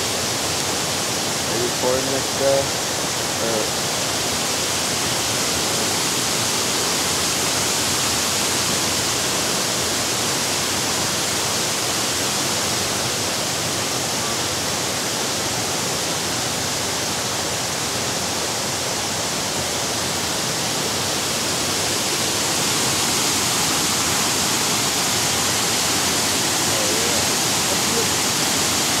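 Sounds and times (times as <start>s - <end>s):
flowing water rushing: 0.0s - 29.0s.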